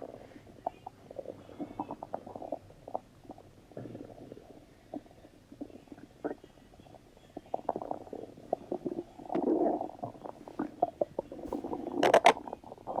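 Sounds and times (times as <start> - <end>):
stomach gurgling: 0.0 - 13.0.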